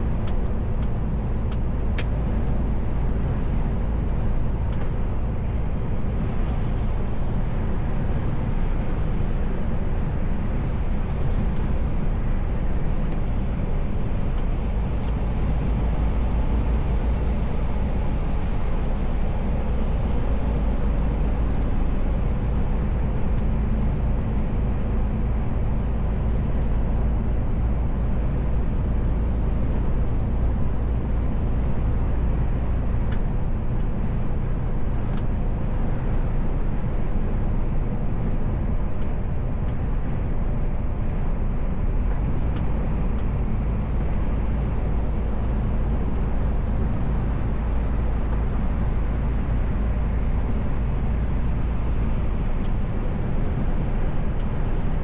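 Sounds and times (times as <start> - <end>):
road and tyre noise: 0.0 - 55.0
truck engine drone: 0.0 - 55.0.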